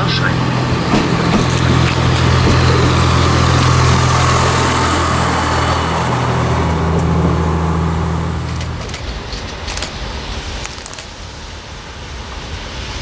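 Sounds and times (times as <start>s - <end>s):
rail diesel engine running: 0.0s - 13.0s.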